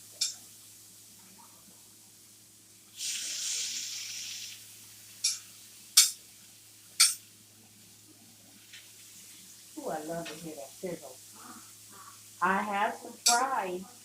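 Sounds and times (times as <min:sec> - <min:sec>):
food sizzling on griddle: 0:00.0 - 0:14.0.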